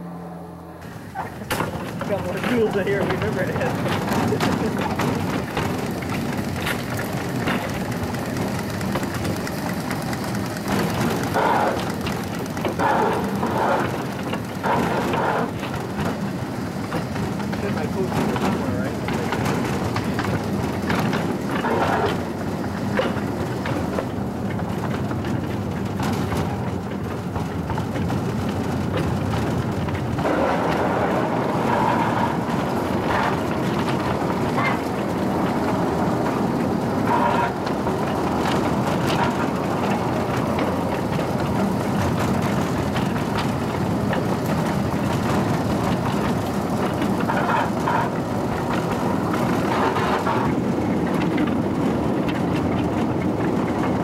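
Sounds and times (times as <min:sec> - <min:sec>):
steam train running: 0:00.0 - 0:54.0.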